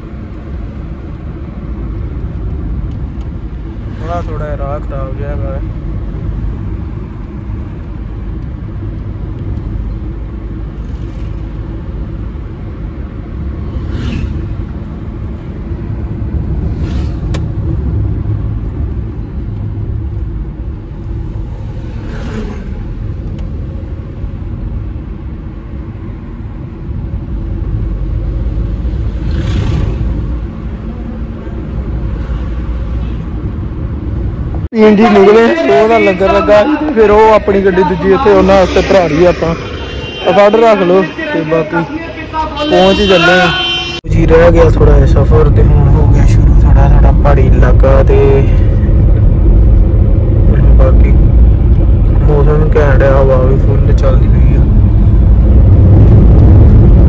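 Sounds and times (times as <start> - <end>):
car engine and road rumble: 0.0 - 57.0
passing vehicles rushing: 0.0 - 57.0.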